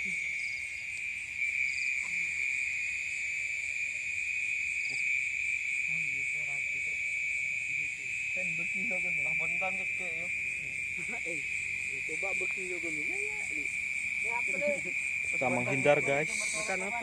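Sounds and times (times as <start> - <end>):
crickets trilling: 0.0 - 17.0
insects pulsing call: 0.0 - 17.0.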